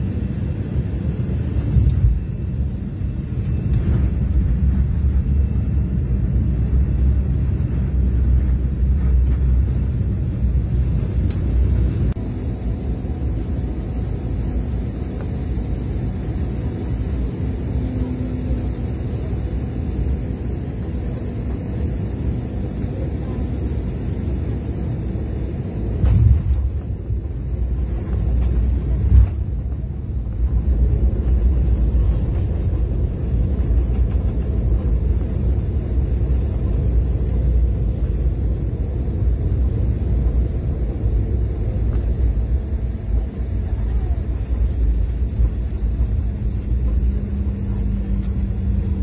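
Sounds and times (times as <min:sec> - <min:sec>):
airliner rumbling on runway: 0:00.0 - 0:49.0.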